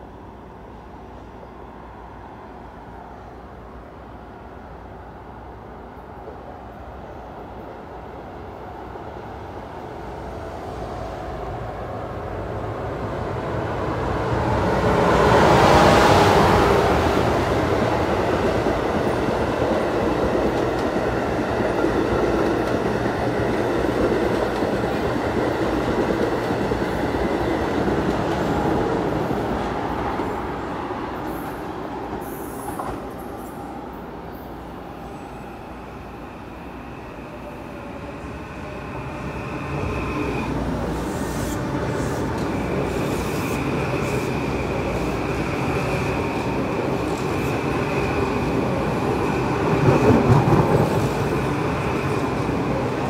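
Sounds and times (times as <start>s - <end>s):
train passing at speed: 0.0s - 53.0s
wheels rushing on rail: 6.2s - 53.0s.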